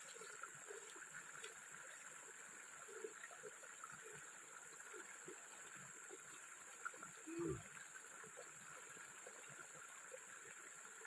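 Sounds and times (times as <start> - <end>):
faint stream running water: 0.0 - 11.0.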